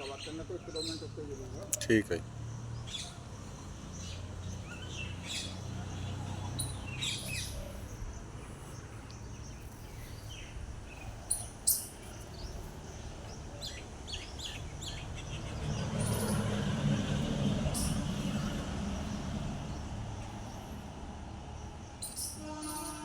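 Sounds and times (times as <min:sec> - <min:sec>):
birds chirping: 0:00.0 - 0:23.0
outdoor background noise: 0:00.0 - 0:23.0.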